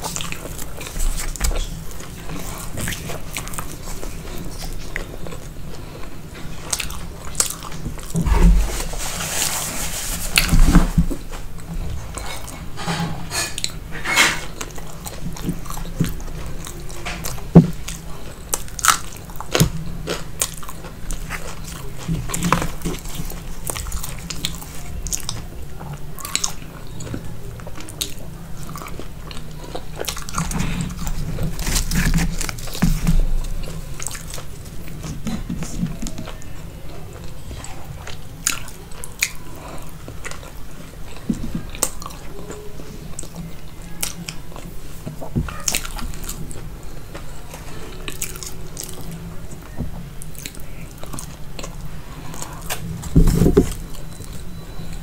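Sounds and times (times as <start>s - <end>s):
wet chewing: 0.0s - 12.7s, 13.4s - 55.0s.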